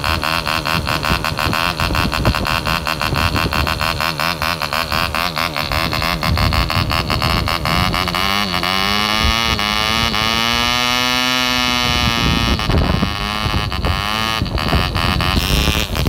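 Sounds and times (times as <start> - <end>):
model engine buzzing: 0.0 - 16.0.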